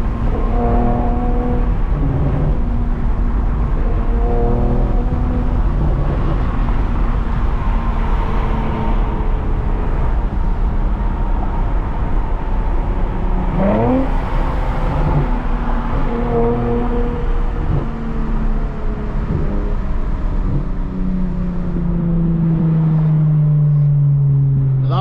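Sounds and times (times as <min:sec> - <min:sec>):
car exhaust droning: 0:00.0 - 0:25.0.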